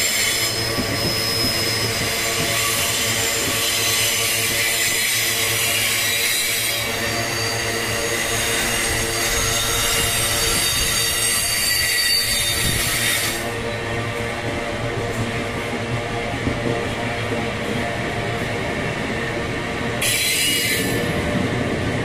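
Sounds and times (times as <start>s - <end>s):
rumble of train cars: 0.0s - 22.0s
steel wheels squealing on rails: 0.0s - 22.0s.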